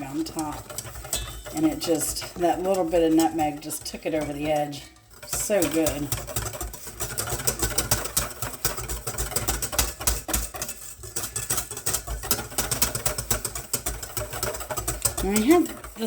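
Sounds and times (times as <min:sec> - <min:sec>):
whisk clicking against bowl: 0:00.0 - 0:16.0.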